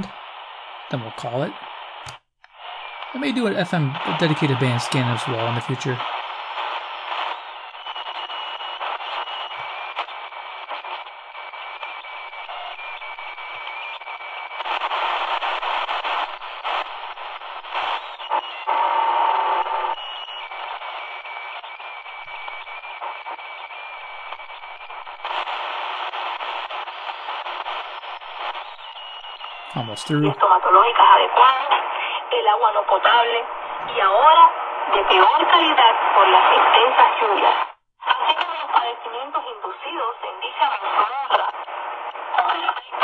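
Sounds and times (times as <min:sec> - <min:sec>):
radio static hissing: 0:00.0 - 0:43.0.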